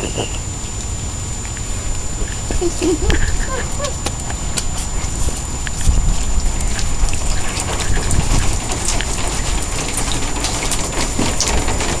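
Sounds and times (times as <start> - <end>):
crackling: 0.0 - 12.0
steady low rumble: 0.0 - 12.0.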